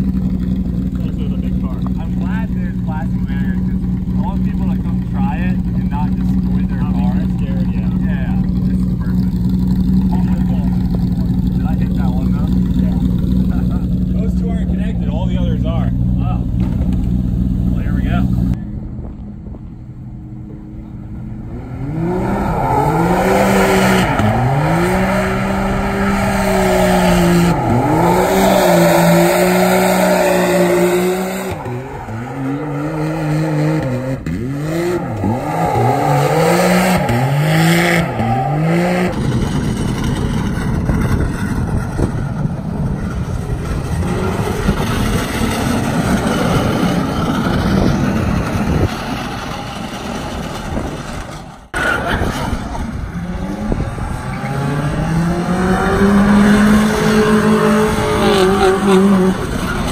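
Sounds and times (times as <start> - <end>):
car engine revving: 0.0 - 59.9
utility vehicle engine revving: 0.0 - 59.9.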